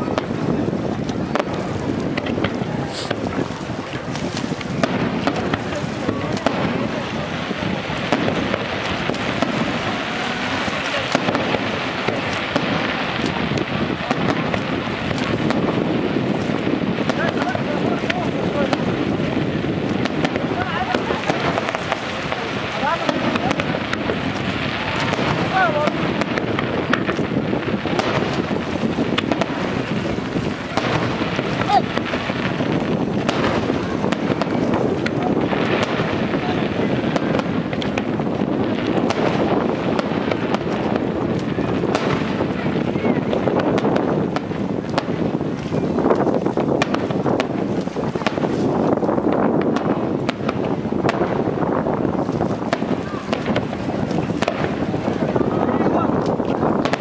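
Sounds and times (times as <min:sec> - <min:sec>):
crowd noise: 0:00.0 - 0:57.0
dense steady noise: 0:00.0 - 0:57.0
fireworks popping and cracking: 0:00.0 - 0:57.0
wind on microphone: 0:00.0 - 0:57.0.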